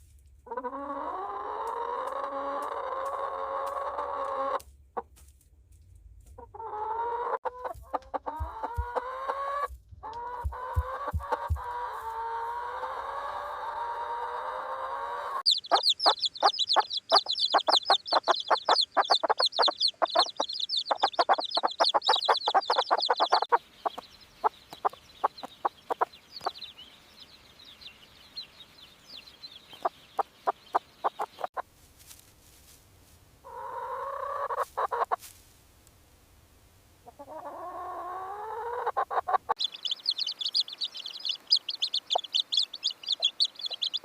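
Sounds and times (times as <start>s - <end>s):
hen clucking: 0.4s - 5.1s, 6.3s - 31.7s, 33.4s - 35.3s, 37.0s - 44.0s
chicks peeping: 0.5s - 5.1s, 6.3s - 31.6s, 33.4s - 35.3s, 37.0s - 44.0s.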